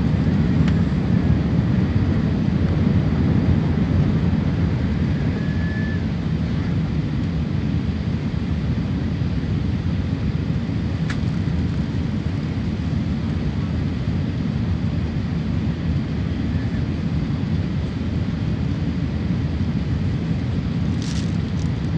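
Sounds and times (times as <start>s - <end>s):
jet engines rumbling: 0.0s - 21.9s.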